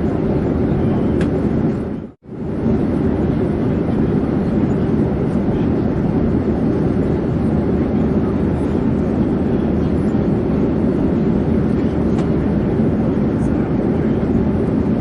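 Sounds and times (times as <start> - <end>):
airplane low drone: 0.0 - 15.0.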